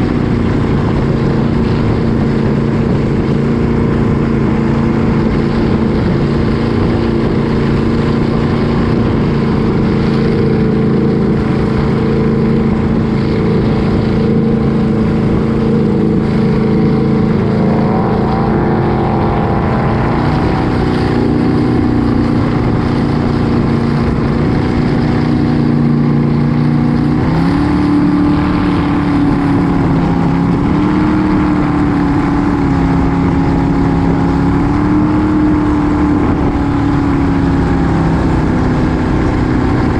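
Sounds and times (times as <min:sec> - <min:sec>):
motorboat engine running: 0:00.0 - 0:39.9
rush of wind and water: 0:00.0 - 0:39.9.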